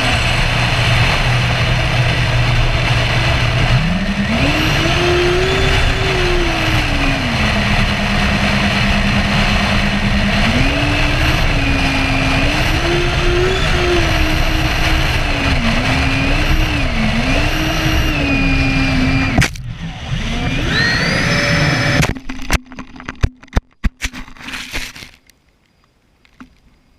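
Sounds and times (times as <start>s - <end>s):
electric ducted fans whining: 0.0s - 22.1s
low rush of wind: 0.0s - 22.1s.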